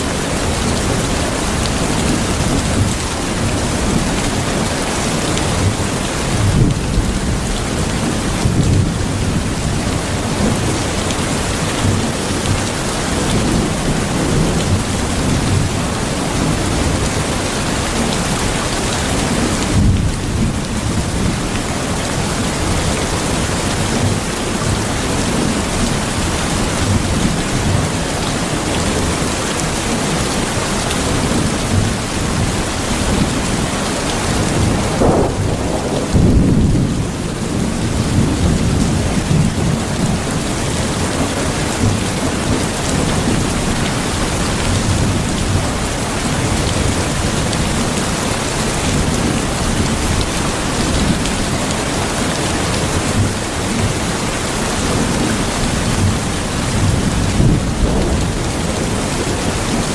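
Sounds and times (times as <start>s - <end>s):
heavy rain: 0.0s - 59.9s
thunder rumbling: 0.1s - 59.9s.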